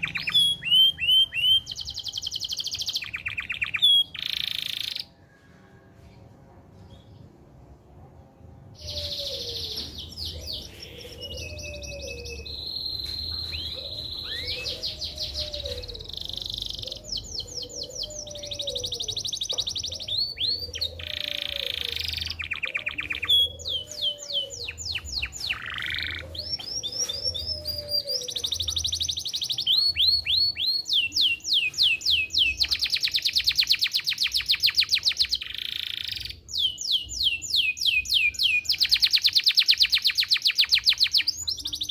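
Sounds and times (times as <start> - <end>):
canary singing trills: 0.0 - 5.2, 8.7 - 41.9.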